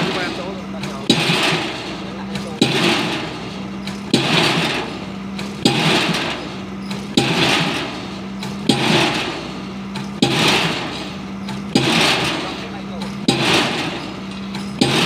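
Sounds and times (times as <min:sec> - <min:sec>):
noisy exhaust: 0:00.0 - 0:15.0
pile hammer bangs: 0:00.0 - 0:15.0.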